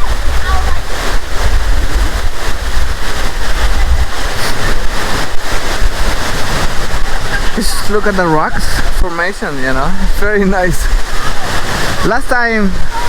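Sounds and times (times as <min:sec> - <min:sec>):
waterfall pounding onto rocks: 0:00.0 - 0:13.0
wind buffeting microphone: 0:00.0 - 0:13.0.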